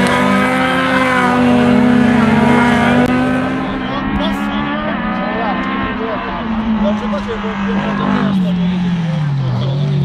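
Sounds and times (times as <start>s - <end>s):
car engine at high revs: 0.0s - 10.0s
lower wavering engine note: 0.0s - 10.0s
voices: 0.0s - 10.0s.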